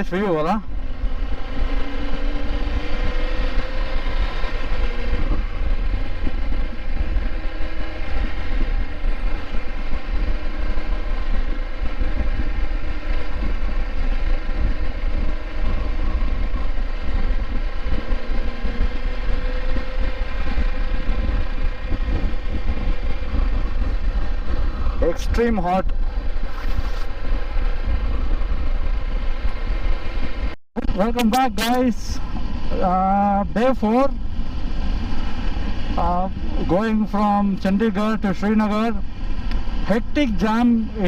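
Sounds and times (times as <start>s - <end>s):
motorcycle engine running: 0.0s - 41.0s
wind rumble on microphone: 0.0s - 41.0s.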